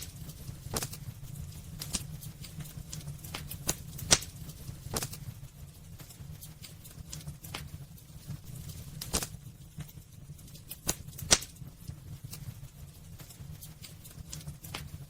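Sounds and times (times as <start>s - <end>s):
wood fire crackling in fireplace: 0.0s - 15.0s.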